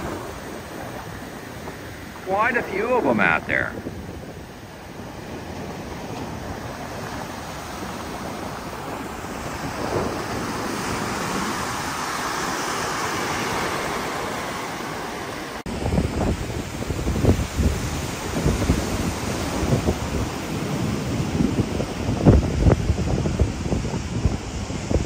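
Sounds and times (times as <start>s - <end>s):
gusty wind buffeting microphone: 0.0s - 25.0s
ocean surf breaking: 0.0s - 25.0s.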